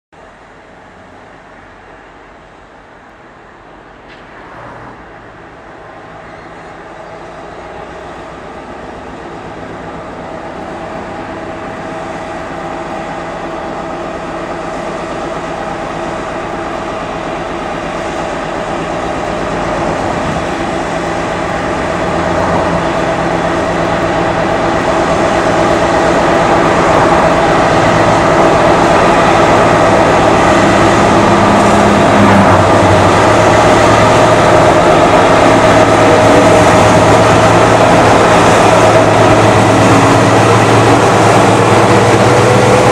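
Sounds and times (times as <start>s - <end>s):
diesel locomotive engine: 0.1s - 42.9s.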